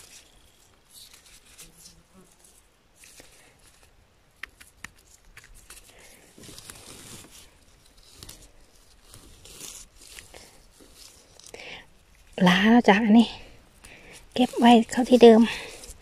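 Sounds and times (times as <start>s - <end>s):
dry moss rustling and crackling: 0.0s - 16.0s.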